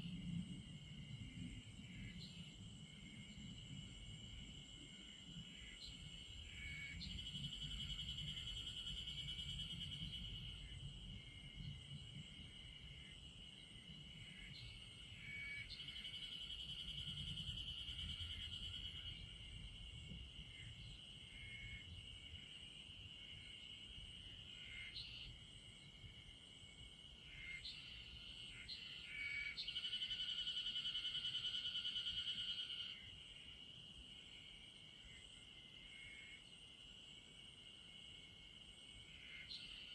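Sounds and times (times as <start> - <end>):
insects trilling: 1.2 - 39.9.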